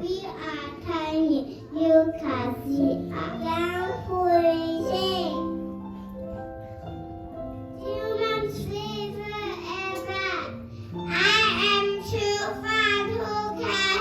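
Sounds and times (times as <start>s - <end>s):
recorded backing music: 0.0s - 14.0s.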